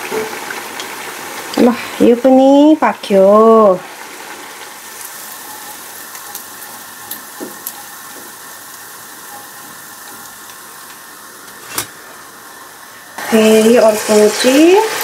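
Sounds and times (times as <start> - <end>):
hot oil hissing: 0.0 - 15.0.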